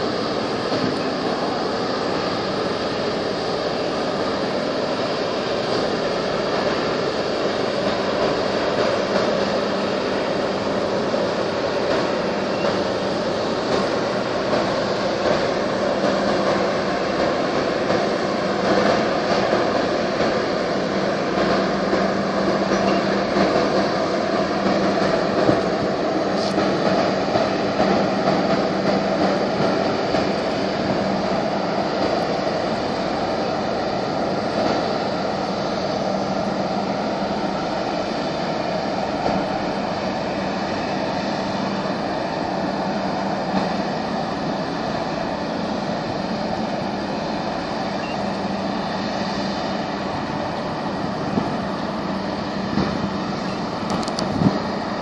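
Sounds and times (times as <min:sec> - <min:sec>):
boat engine droning: 0:00.0 - 0:55.0
rushing water: 0:00.0 - 0:55.0
wind: 0:00.0 - 0:55.0.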